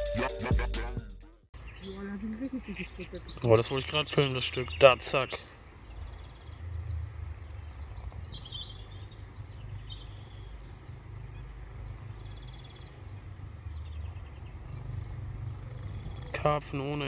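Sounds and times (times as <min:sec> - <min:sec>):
bird chirps: 0:01.6 - 0:16.3.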